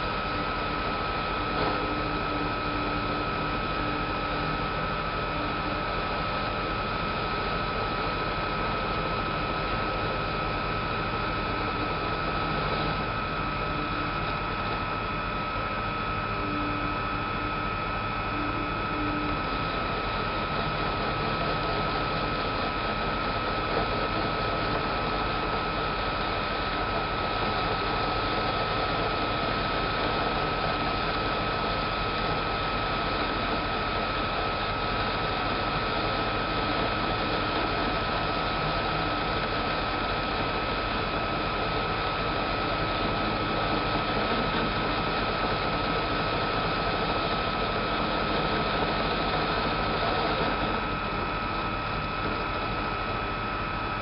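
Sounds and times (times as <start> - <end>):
metal lathe cutting with whine: 0.0 - 54.0.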